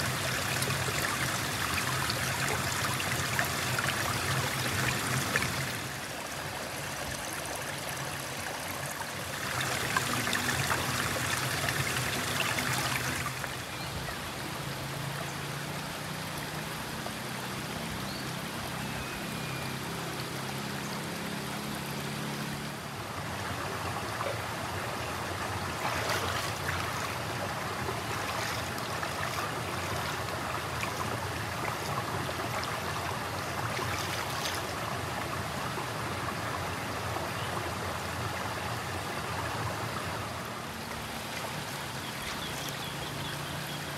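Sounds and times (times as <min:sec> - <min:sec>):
river flowing over stones: 0:00.0 - 0:43.9.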